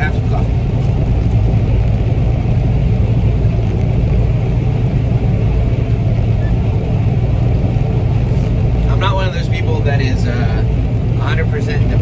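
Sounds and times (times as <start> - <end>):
combine harvester low drone: 0.0 - 12.0.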